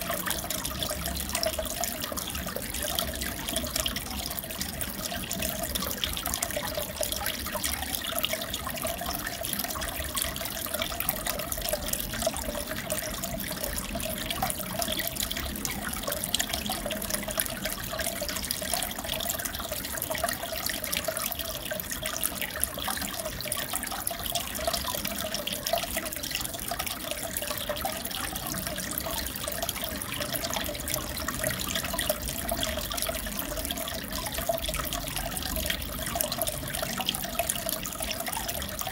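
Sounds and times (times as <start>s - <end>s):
aquarium water trickling and bubbling: 0.0s - 38.9s.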